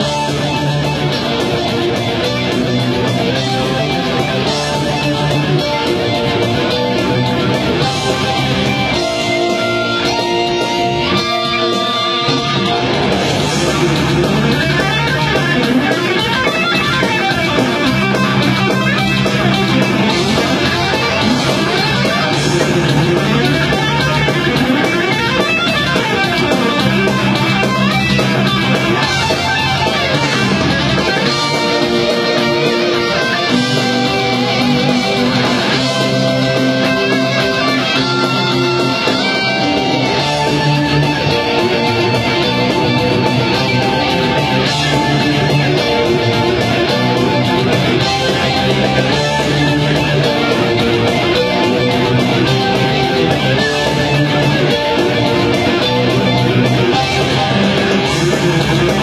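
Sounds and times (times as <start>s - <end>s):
electric guitar arpeggios: 0.0s - 59.0s.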